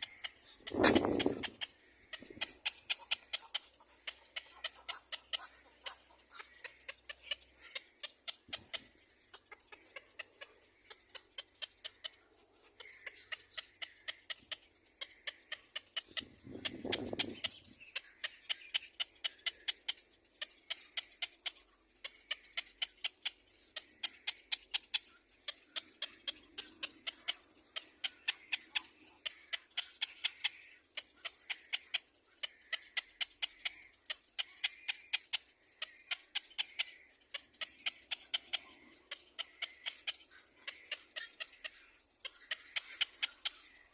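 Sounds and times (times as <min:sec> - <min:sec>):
fledgling bird begging calls: 0:00.0 - 0:43.9.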